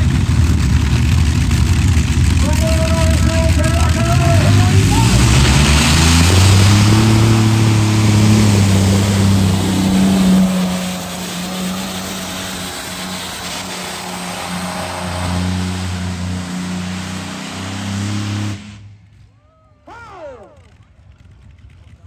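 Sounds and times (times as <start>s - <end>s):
pulling tractor engine at full power: 0.0s - 19.3s.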